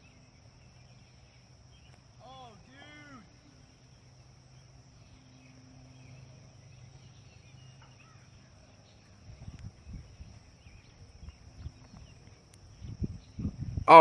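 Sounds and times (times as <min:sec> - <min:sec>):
faint bird chirps: 0:00.0 - 0:13.8
high insect drone: 0:00.0 - 0:14.0.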